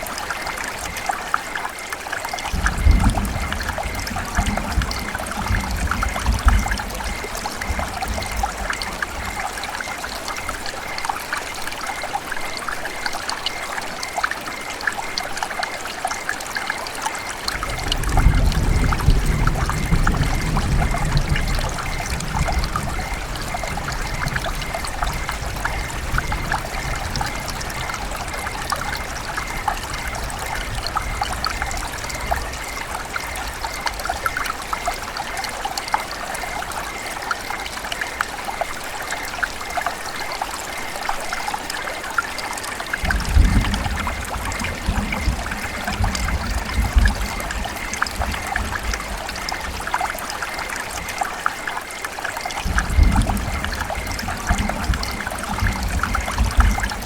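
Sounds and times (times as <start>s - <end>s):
river water running and trickling: 0.0s - 57.0s.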